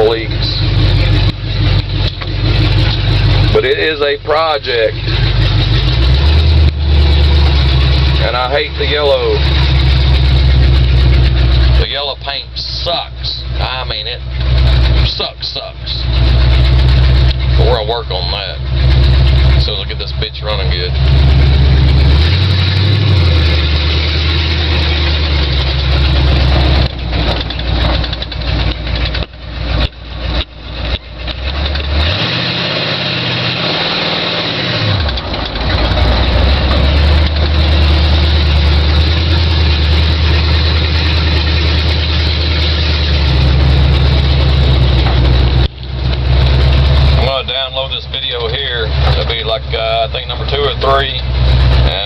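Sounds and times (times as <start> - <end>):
loud truck engine running: 0.0 - 52.0.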